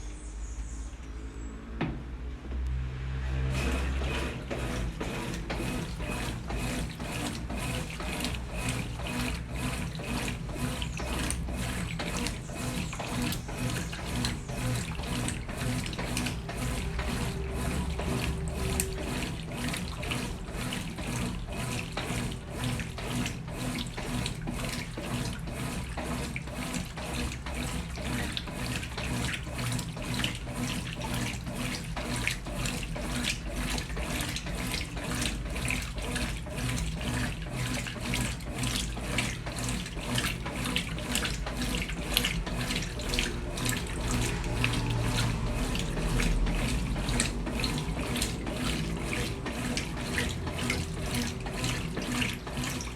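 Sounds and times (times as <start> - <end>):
water rushing into washing machine: 2.7 - 52.9.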